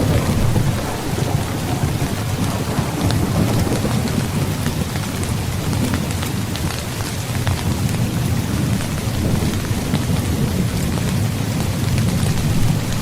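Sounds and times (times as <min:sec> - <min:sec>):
heavy rain: 0:00.0 - 0:13.0
low rumble of thunder: 0:00.0 - 0:13.0.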